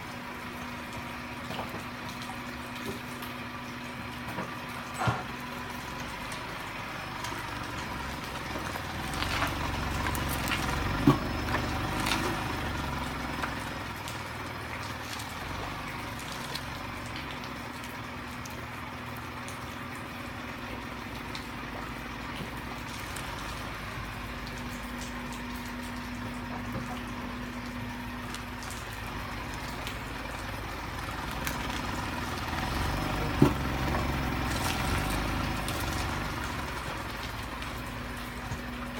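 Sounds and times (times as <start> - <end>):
vehicles passing on wet road: 0.0 - 38.9.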